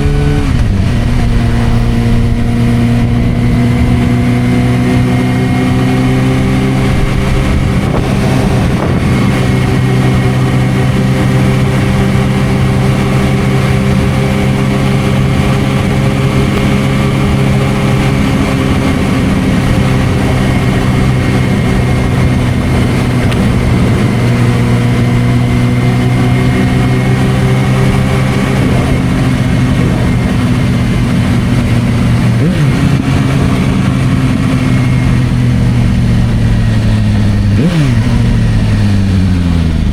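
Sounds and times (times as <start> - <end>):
motorcycle engine drone: 0.0 - 39.9
rough rushing noise: 0.0 - 39.9.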